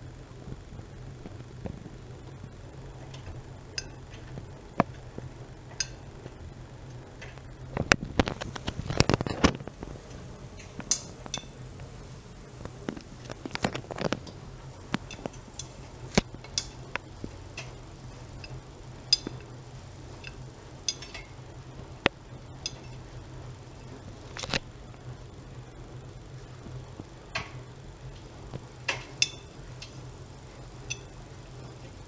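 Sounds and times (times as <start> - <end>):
washing machine humming: 0.0 - 32.0.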